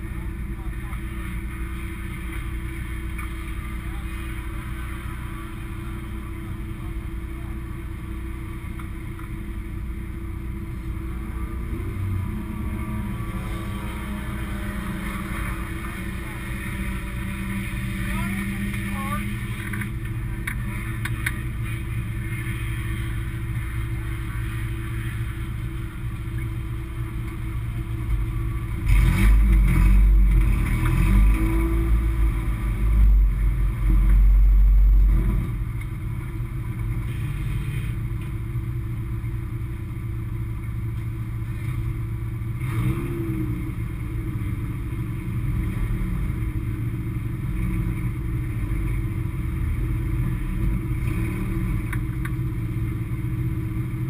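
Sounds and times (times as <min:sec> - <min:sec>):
race car engine idling and revving: 0:00.0 - 0:54.0.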